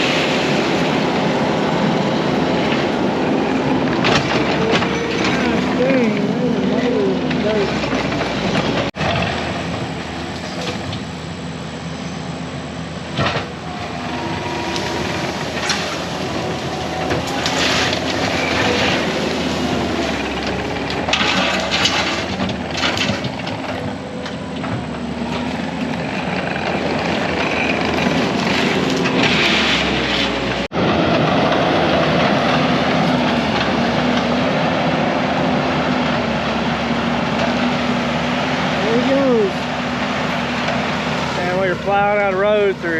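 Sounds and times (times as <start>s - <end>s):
diesel engine running under load: 0.0s - 42.9s.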